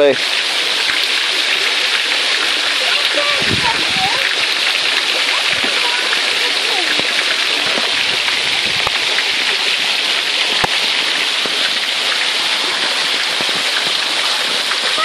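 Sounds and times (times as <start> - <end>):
water rushing through stone channel: 0.0 - 15.0.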